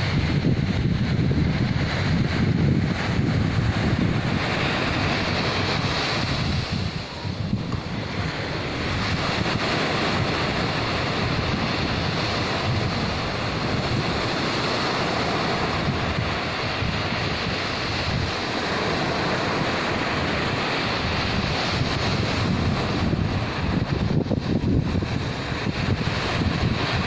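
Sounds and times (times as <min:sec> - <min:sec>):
small waves washing on beach: 0:00.0 - 0:27.0
wind buffeting microphone: 0:00.0 - 0:27.0.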